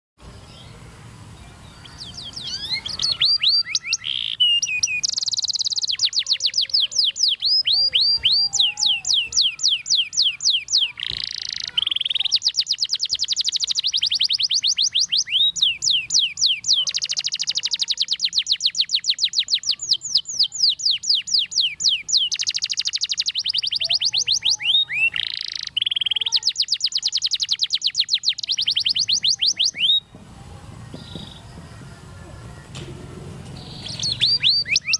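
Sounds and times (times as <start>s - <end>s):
canary singing trills: 0.4s - 34.9s.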